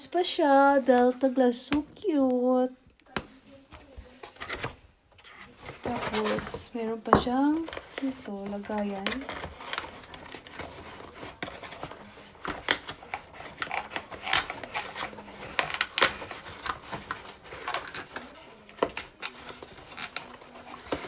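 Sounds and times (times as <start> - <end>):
packaging clicks and rustles: 3.7 - 21.0.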